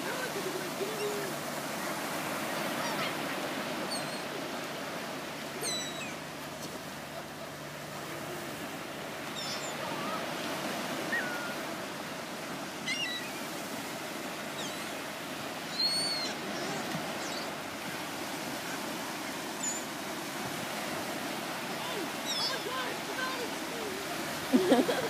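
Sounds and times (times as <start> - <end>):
surf breaking on beach: 0.0 - 5.6, 6.2 - 15.7, 16.3 - 25.0
gulls calling: 0.0 - 25.0.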